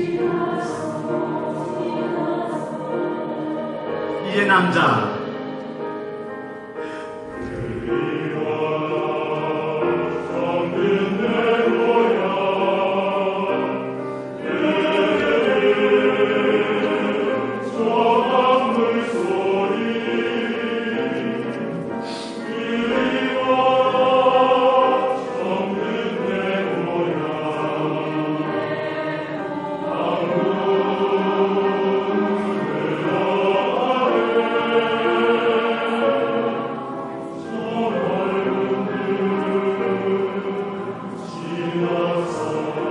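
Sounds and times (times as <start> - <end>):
men's choir singing: 0.0 - 42.9.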